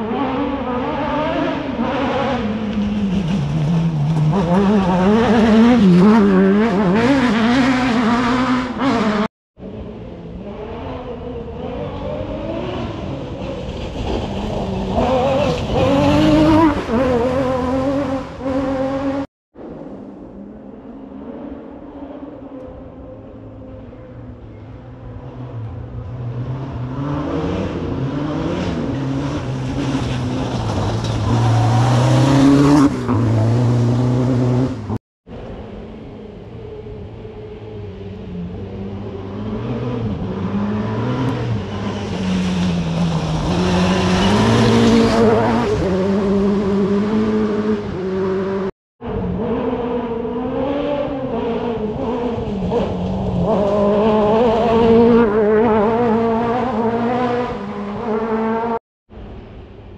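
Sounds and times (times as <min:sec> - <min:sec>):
rally car engines revving: 0:00.0 - 0:59.4.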